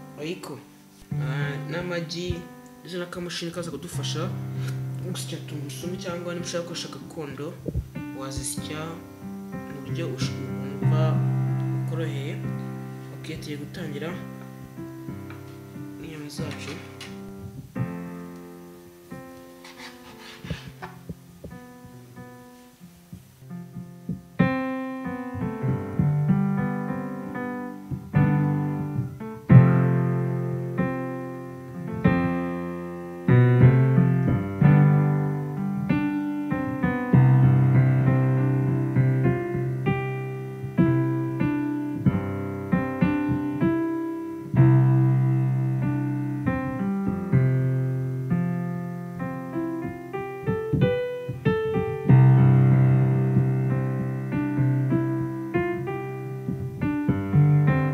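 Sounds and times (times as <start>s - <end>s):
piano music: 0.0s - 57.9s.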